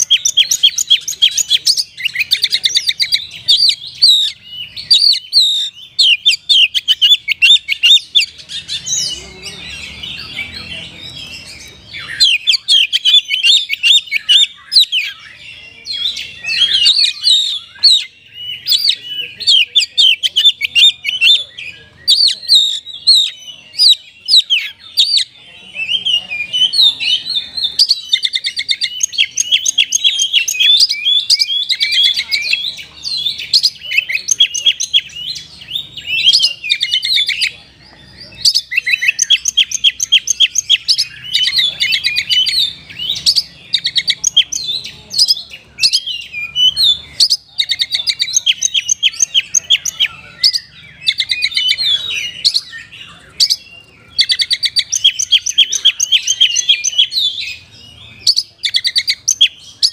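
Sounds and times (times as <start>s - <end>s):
bird singing whistles and trills: 0.0s - 59.9s.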